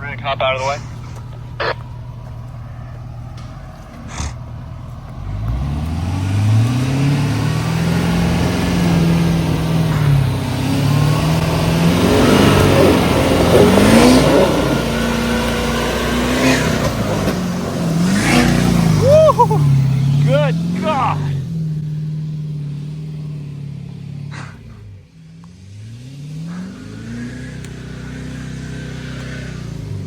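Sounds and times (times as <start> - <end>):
pickup engine revving hard: 0.4 - 30.0.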